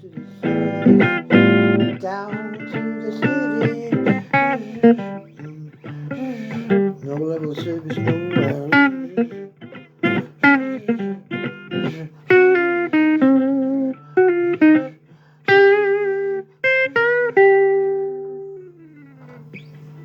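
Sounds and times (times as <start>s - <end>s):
blues guitar notes: 0.0s - 20.0s.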